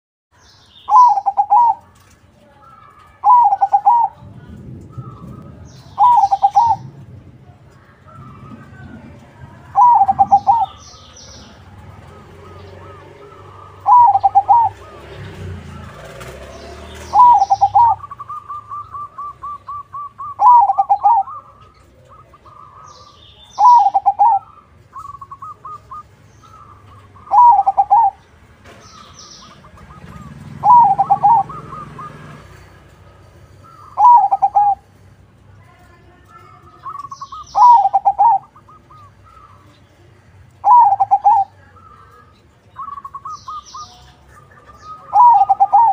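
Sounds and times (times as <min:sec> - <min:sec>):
rapid repeated bird notes: 0:00.3 - 0:07.0, 0:09.5 - 0:35.4, 0:36.5 - 0:45.9
dove cooing: 0:00.9 - 0:02.2, 0:02.9 - 0:07.0, 0:08.1 - 0:28.2, 0:29.0 - 0:34.9, 0:36.5 - 0:45.9.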